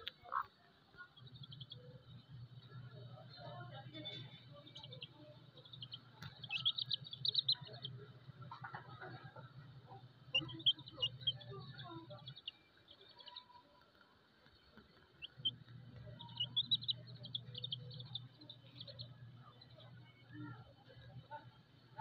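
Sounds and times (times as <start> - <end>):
chicks peeping: 0.0 - 3.5, 4.2 - 22.0
low hum: 1.1 - 13.5, 14.5 - 22.0.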